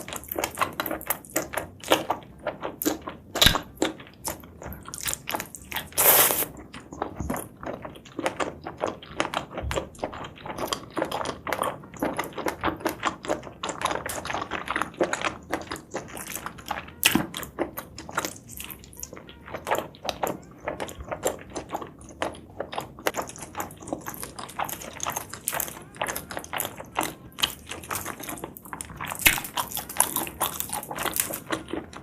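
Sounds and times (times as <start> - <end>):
chewing and biting food: 0.0 - 32.0.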